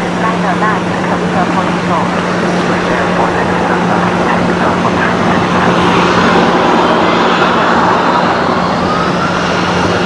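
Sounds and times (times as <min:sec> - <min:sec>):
jet engines roaring: 0:00.0 - 0:10.0
low hum: 0:00.0 - 0:10.0.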